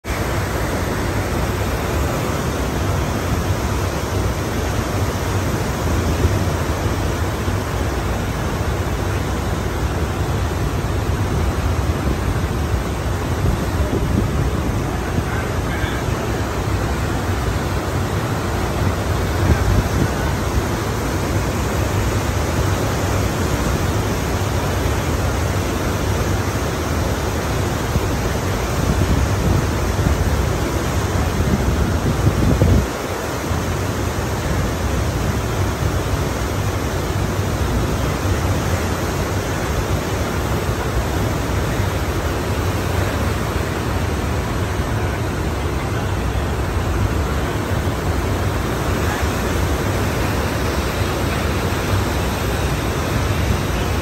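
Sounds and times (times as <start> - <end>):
ocean surf washing: 0.0 - 54.0.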